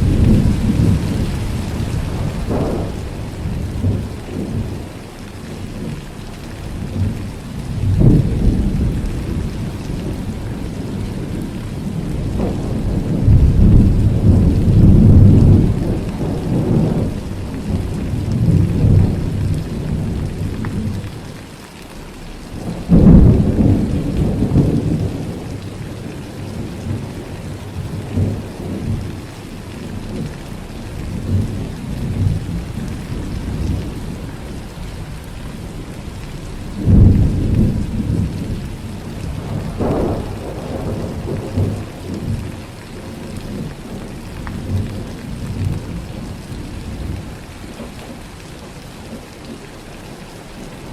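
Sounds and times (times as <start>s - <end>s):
thunder rumbling: 0.0s - 21.2s, 22.4s - 49.6s
steady rain: 0.0s - 50.9s.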